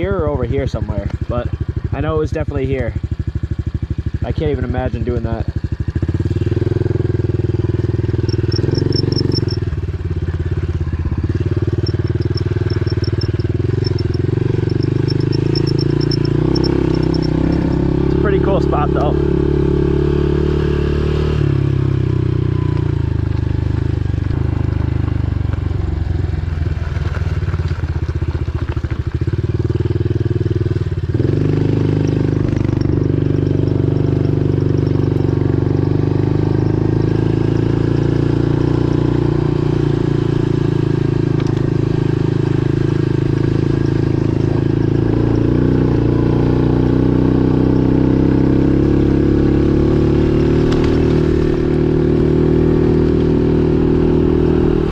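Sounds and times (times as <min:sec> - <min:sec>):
pit bike engine running: 0:00.0 - 0:54.9.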